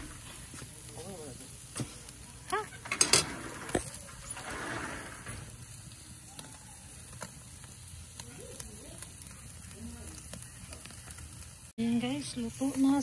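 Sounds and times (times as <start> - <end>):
grill hissing and crackling: 0.0 - 13.0.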